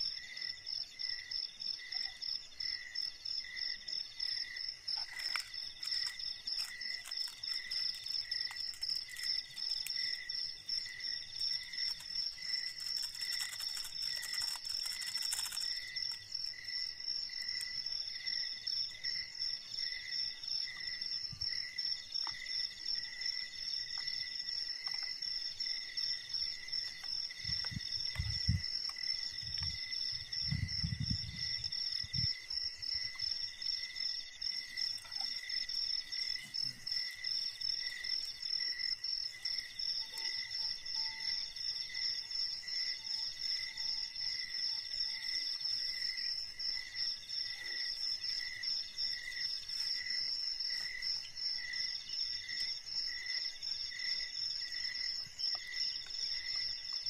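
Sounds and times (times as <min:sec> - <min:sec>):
insect calling in phrases: 0:00.0 - 0:57.0
insects chirping: 0:00.0 - 0:57.0.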